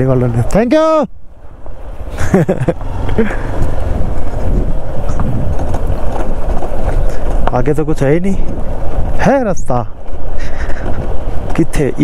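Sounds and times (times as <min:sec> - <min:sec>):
motorcycle rumbling over rough road: 0:00.0 - 0:12.0
wind buffeting microphone: 0:01.2 - 0:12.0.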